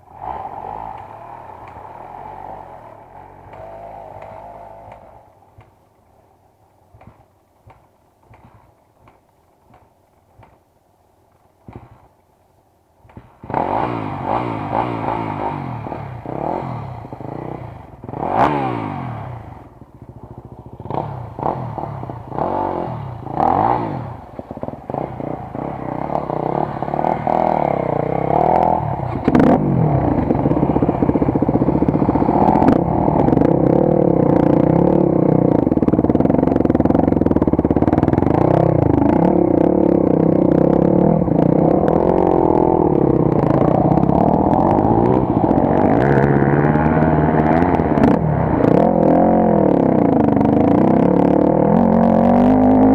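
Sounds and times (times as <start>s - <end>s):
motorcycle engine revving: 0.0s - 6.2s, 13.1s - 52.9s.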